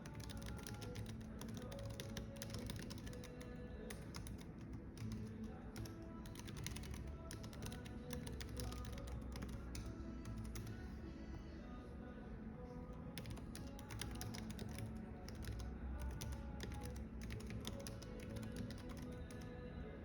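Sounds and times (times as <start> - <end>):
keyboard typing clicks: 0.0 - 10.9, 13.2 - 19.4
soft background music: 0.0 - 20.0.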